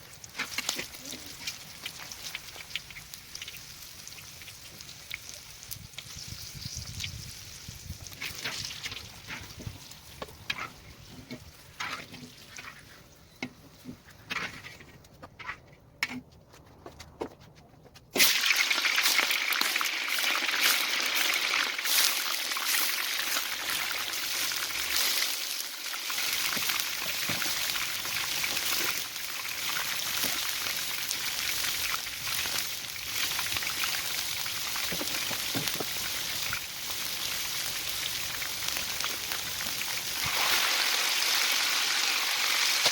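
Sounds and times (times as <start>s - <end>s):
food sizzling in hot oil: 0.0s - 12.9s, 18.2s - 42.9s.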